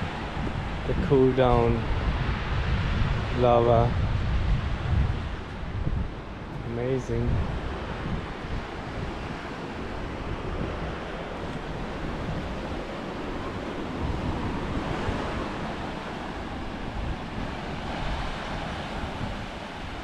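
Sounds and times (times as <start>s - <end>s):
surf on rocky shore: 0.0s - 20.0s
wind buffeting microphone: 0.0s - 20.0s.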